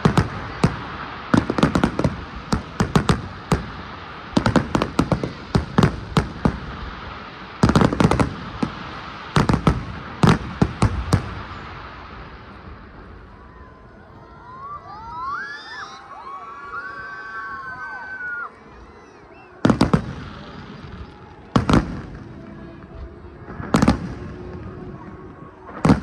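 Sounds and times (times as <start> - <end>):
fireworks exploding: 0.0 - 14.0, 14.6 - 26.0.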